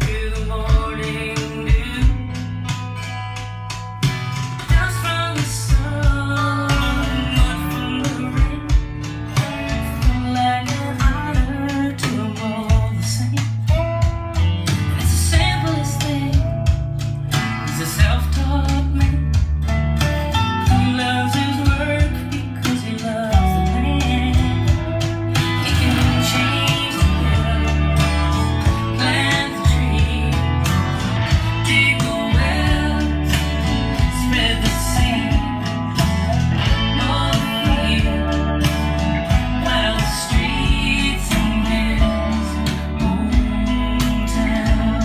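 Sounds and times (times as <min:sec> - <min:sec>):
person singing: 0:00.0 - 0:02.9, 0:04.5 - 0:19.5, 0:20.2 - 0:45.0
bass line: 0:00.0 - 0:45.0
guitar: 0:00.0 - 0:45.0
steady beat: 0:00.0 - 0:45.0.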